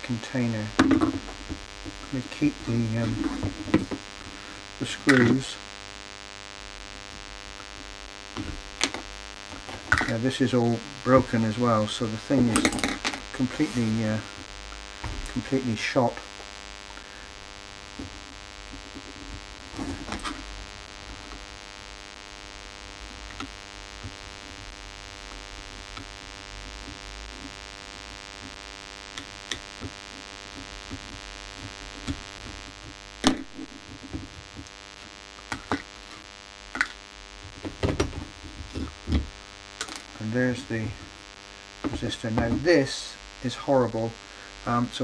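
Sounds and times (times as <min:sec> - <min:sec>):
steady electrical hum: 0:00.0 - 0:45.0.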